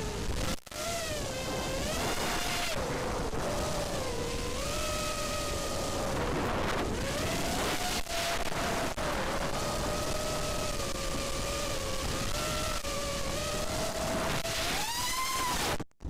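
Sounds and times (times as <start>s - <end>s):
drone motors and propellers whining: 0.0s - 15.9s.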